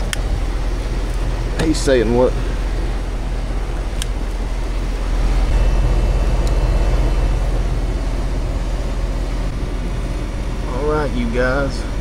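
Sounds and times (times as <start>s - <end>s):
heat pump compressor hum: 0.0s - 12.0s.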